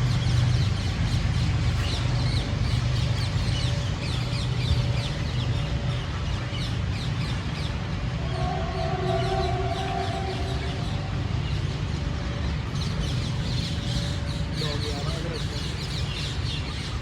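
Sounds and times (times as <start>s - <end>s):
birds chirping: 0.0s - 17.0s
steady low hum: 0.0s - 17.0s.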